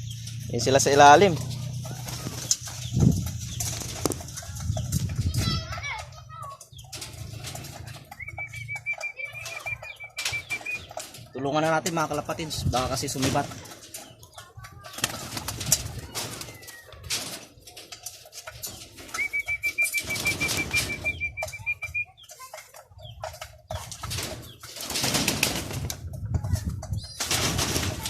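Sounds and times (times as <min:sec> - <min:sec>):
pigeons flapping wings: 0:01.1 - 0:28.0.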